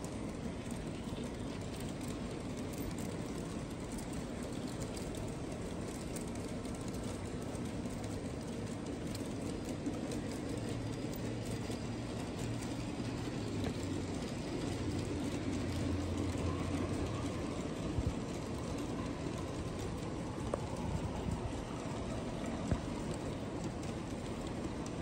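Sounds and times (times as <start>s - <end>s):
faint clicks: 0.0s - 25.0s
model train wheels rumbling: 0.0s - 25.0s.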